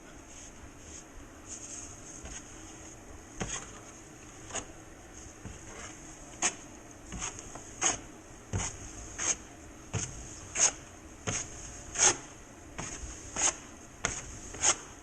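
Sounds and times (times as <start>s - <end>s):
drywall knife scraping compound: 1.5s - 4.8s, 5.4s - 15.0s.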